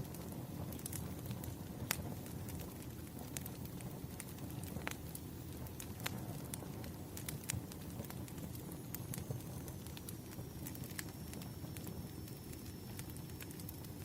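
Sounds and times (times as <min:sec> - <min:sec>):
firewood crackling and popping: 0:00.0 - 0:14.0.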